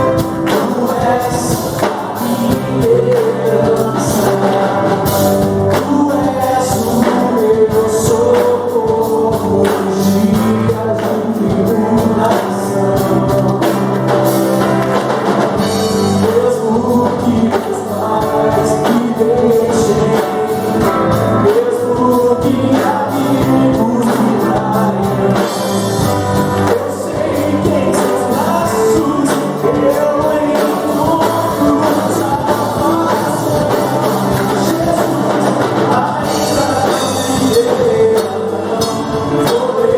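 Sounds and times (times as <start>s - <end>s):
person singing worship song: 0.0s - 15.0s, 15.6s - 39.9s
bass guitar: 0.0s - 39.9s
drum kit: 0.0s - 39.9s
electric guitar: 0.0s - 39.9s
keyboard: 0.0s - 39.9s.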